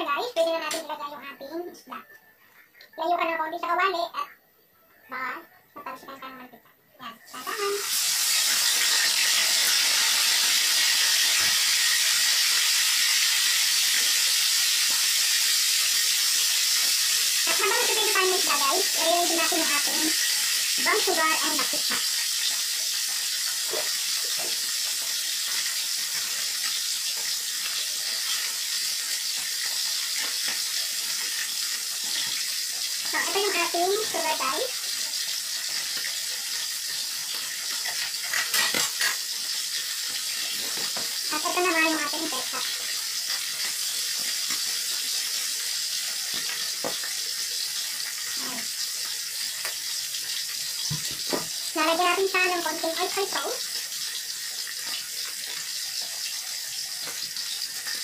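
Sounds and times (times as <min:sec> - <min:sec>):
fish sizzling in hot oil: 0:07.3 - 0:58.0
oil popping and crackling: 0:07.4 - 0:58.0.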